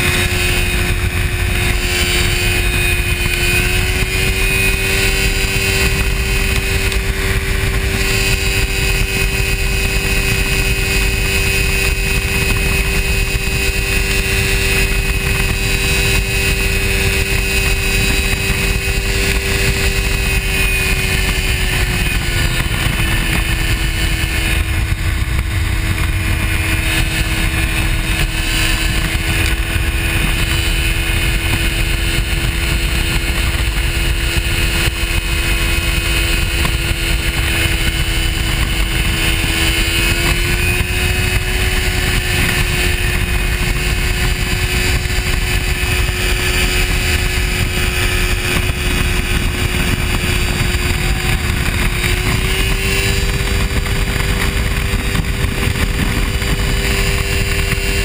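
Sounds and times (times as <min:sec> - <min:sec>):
airplane engine and propeller: 0:00.0 - 0:58.0.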